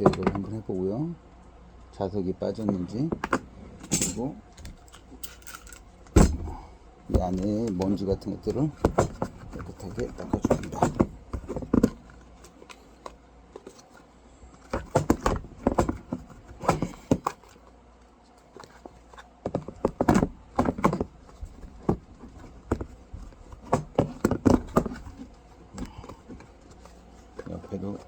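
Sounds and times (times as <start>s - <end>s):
knocks and taps handling a case: 0.0s - 0.6s, 2.6s - 13.8s, 14.6s - 17.6s, 18.6s - 28.0s.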